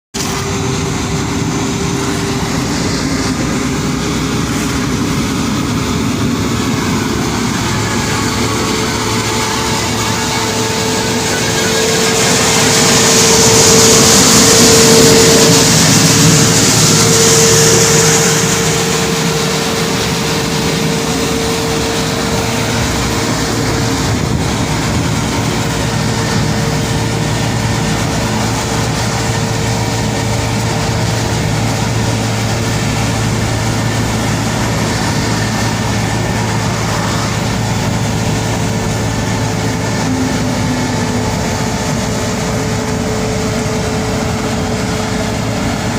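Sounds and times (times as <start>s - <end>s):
loud hiss: 0.2s - 45.9s
machine whine: 0.2s - 45.9s
sweeping machine engine humming: 0.2s - 45.9s.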